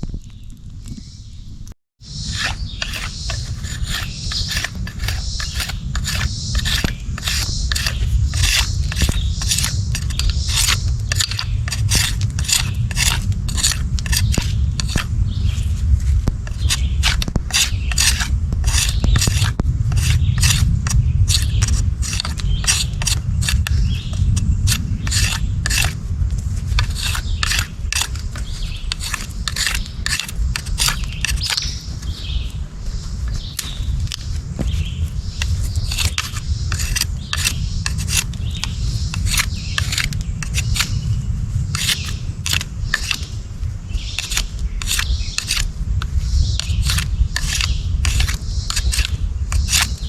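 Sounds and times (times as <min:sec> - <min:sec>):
steady low rumble: 0:00.0 - 0:50.0
knife scraping a stick: 0:02.1 - 0:50.0.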